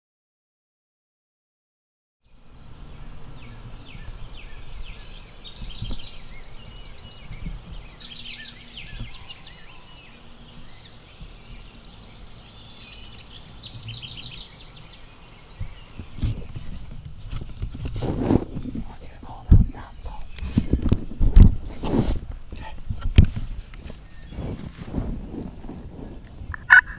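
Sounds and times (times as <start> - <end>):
songbirds chirping: 2.2 - 26.9.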